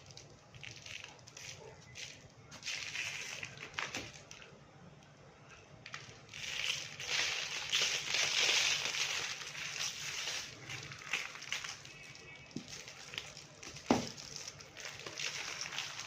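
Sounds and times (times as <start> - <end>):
dry clay crunching: 0.0 - 4.5, 5.8 - 16.0.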